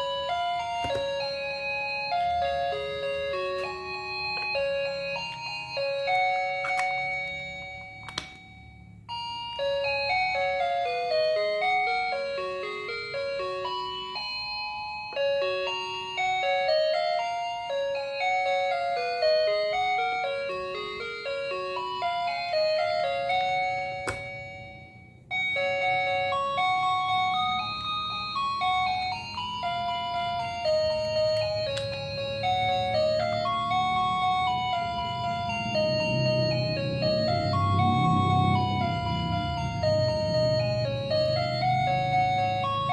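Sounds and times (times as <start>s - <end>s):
chiming melody: 0.0s - 42.9s.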